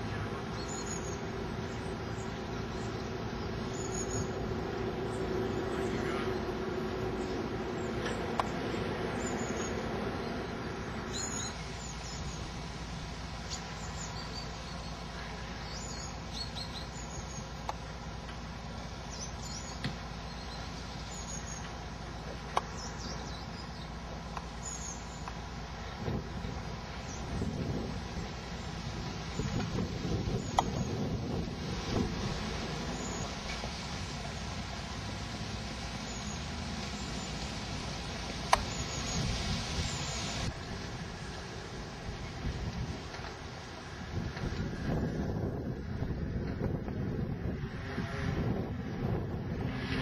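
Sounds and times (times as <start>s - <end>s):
distant traffic: 0.0s - 50.0s.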